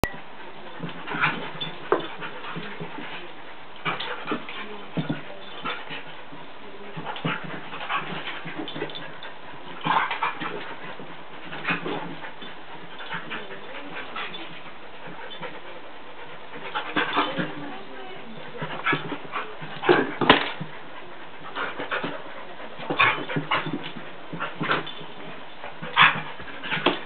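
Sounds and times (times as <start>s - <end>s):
dogs play-fighting vocalizing: 0.0s - 27.0s.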